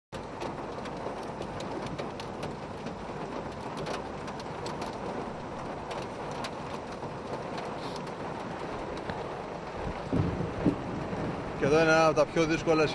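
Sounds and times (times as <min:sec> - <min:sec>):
raindrops ticking close by: 0:00.1 - 0:12.9
heavy rain on a car: 0:00.2 - 0:12.9.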